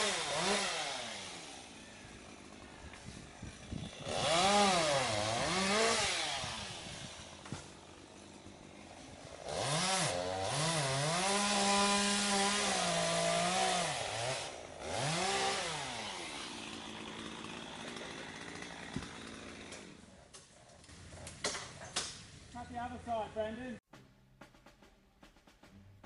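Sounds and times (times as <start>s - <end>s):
chainsaw cutting wood: 0.0s - 22.2s.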